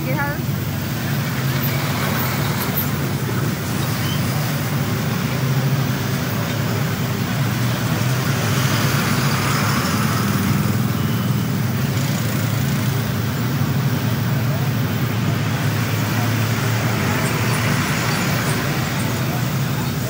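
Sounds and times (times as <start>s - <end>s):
trucks driving past: 0.0s - 20.0s.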